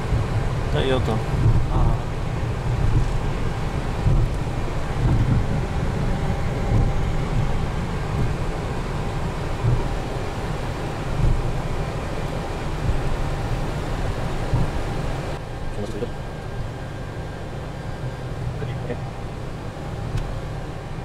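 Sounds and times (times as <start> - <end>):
idling jet engines rumble: 0.0 - 21.0.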